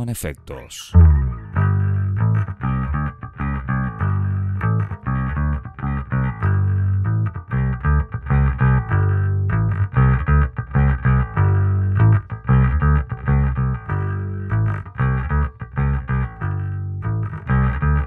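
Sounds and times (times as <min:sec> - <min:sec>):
electric bass guitar riff: 0:00.9 - 0:18.0.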